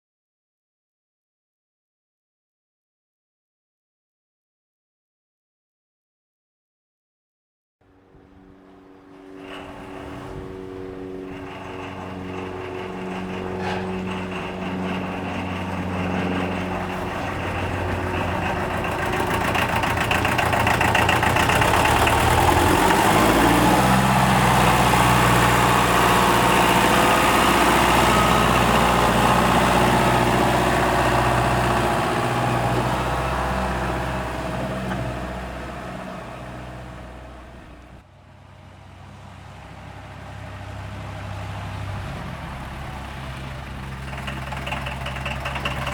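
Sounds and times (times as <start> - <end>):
tractor diesel engine running: 8.3 - 45.9.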